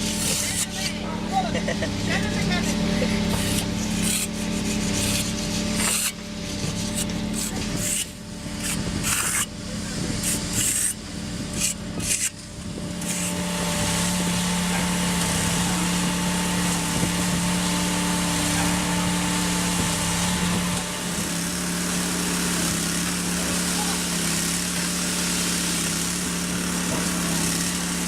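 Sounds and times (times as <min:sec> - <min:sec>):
heavy machine engine humming: 0:00.0 - 0:28.0.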